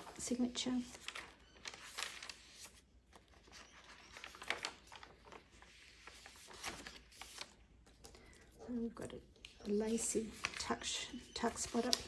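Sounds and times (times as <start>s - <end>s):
paper pages turning: 0.0s - 12.0s.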